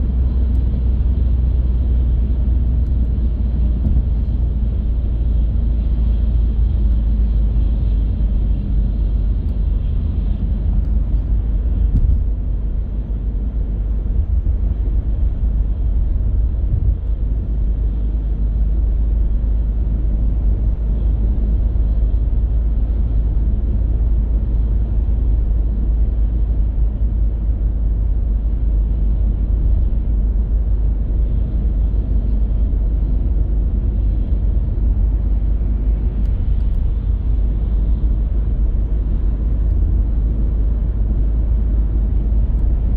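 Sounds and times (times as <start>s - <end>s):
car engine rumble: 0.0s - 42.9s.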